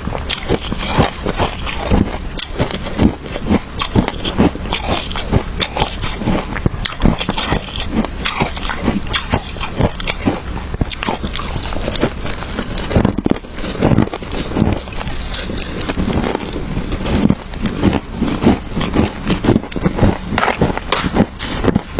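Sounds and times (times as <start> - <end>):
chewing crunchy shaved ice: 0.0 - 21.9.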